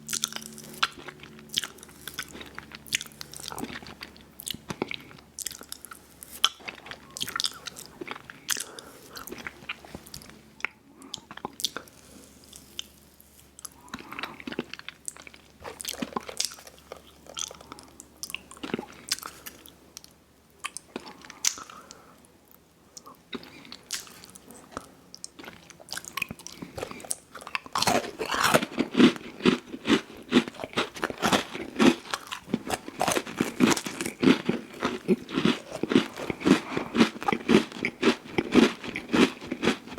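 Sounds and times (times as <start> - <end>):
crunchy chewing: 0.0 - 22.0, 23.0 - 39.9.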